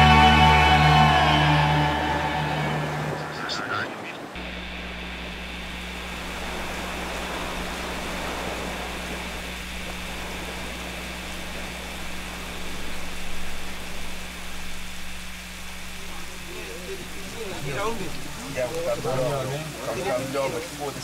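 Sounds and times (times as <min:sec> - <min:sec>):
ambient hiss: 0:00.0 - 0:21.0
low hum: 0:00.0 - 0:21.0.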